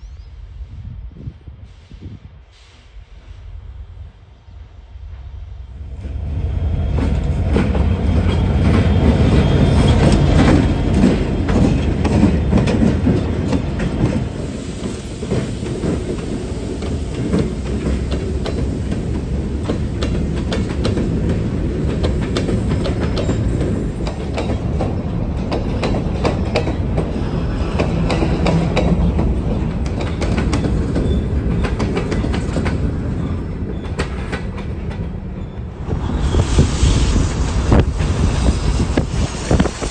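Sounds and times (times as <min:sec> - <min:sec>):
diesel locomotive engine rumble: 0:00.0 - 0:39.9
train wheels clickety-clack: 0:06.0 - 0:39.9.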